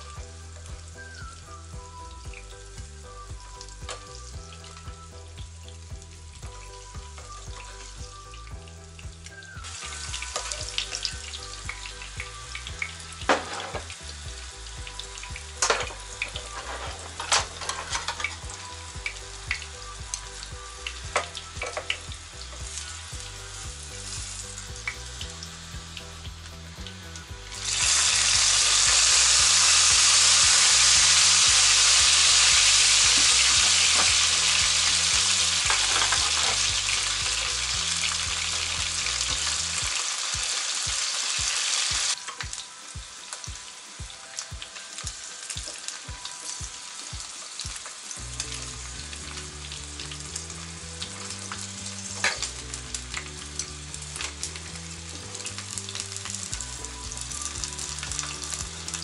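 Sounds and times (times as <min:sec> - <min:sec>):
crackles and pops of frying: 0:00.0 - 0:59.0
nuts sizzling in hot oil: 0:00.0 - 0:59.0.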